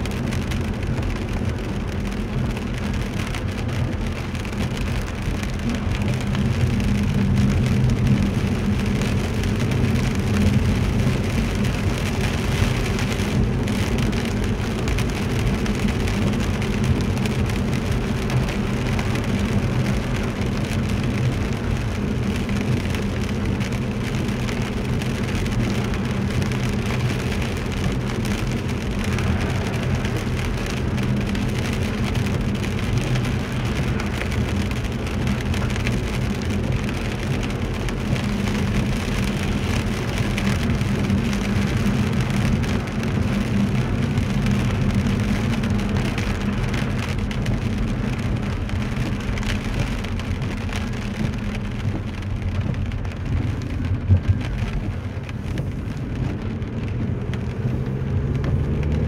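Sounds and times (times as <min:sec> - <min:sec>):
low engine and road hum: 0:00.0 - 0:59.0
rain on windscreen: 0:00.0 - 0:59.0
tyres hissing on wet road: 0:00.0 - 0:59.0.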